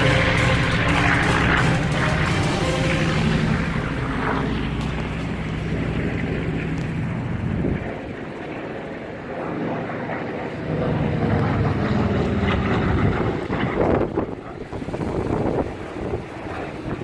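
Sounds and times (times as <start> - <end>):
propeller plane engine drone: 0.0 - 17.0.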